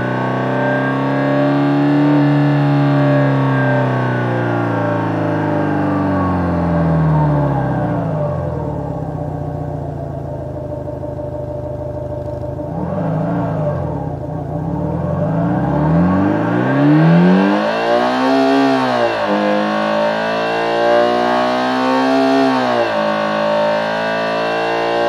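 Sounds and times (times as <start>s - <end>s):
engine sound simulator revving: 0.0s - 25.0s.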